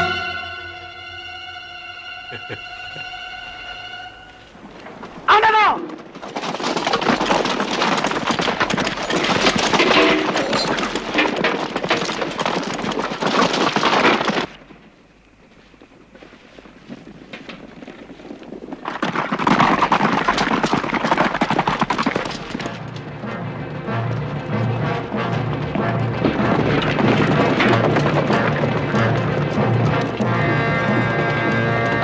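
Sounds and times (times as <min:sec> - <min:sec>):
horses galloping hoofbeats: 0:02.3 - 0:32.0.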